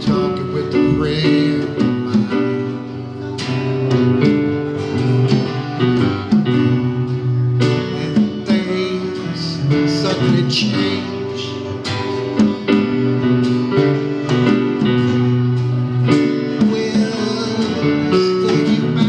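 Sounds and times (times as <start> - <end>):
guitar strumming chords: 0.0 - 19.0
live band playing: 0.0 - 19.0.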